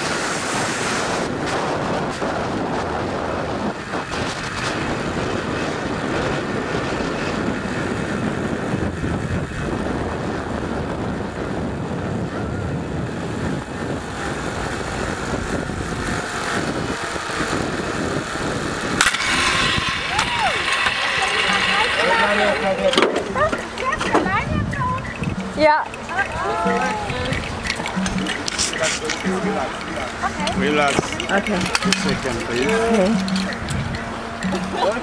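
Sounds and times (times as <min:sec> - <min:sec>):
wind on microphone: 0:00.0 - 0:35.0
zip line pulleys whirring: 0:00.0 - 0:35.0.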